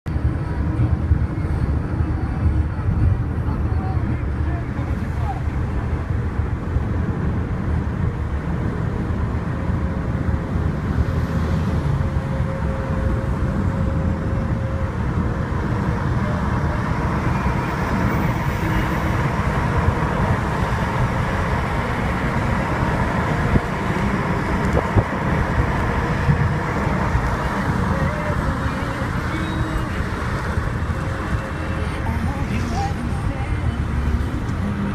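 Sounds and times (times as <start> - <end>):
vehicle road noise drone: 0.1 - 34.9.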